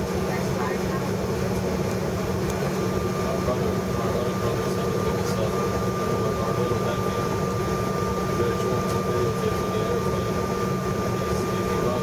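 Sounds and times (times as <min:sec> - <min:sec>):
airliner engines and air conditioning hum: 0:00.0 - 0:12.0.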